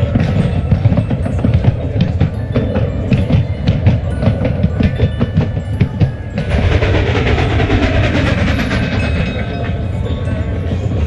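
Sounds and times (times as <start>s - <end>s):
faint bell-like music tones: 0.0s - 11.0s
train clicking over rail joints: 0.0s - 11.0s.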